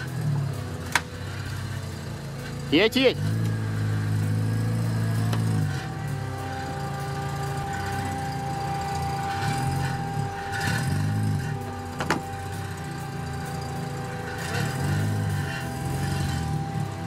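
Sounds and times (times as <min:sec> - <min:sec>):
engine revving in low gear: 0:00.0 - 0:17.0.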